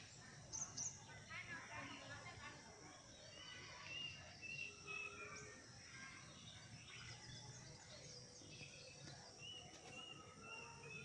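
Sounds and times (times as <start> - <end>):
faint birdsong: 0.0 - 11.0
outdoor background noise: 0.0 - 11.0.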